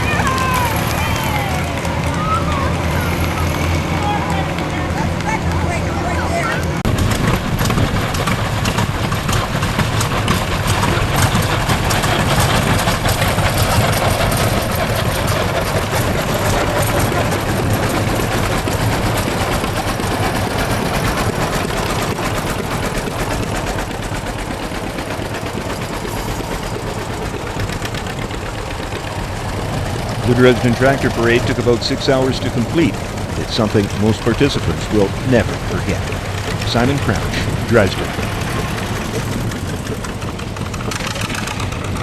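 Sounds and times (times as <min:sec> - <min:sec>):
tractor engines driving past: 0:00.0 - 0:42.0.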